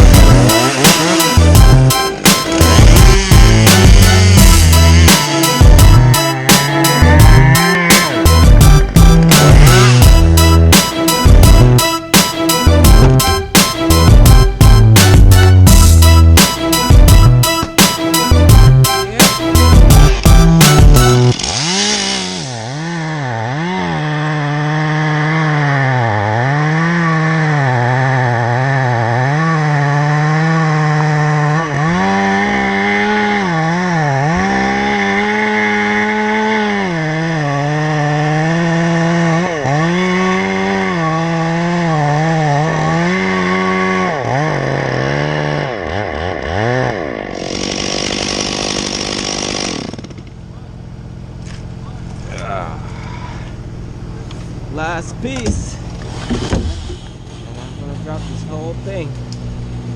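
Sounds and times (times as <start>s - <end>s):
chainsaw cutting wood: 0.0s - 52.1s, 53.6s - 59.9s.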